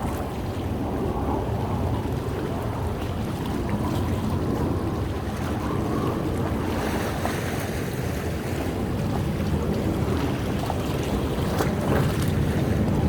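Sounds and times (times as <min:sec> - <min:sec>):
sea waves washing against rocks: 0:00.0 - 0:13.0
water splashes: 0:00.0 - 0:13.0
wind rumble on microphone: 0:00.0 - 0:13.0.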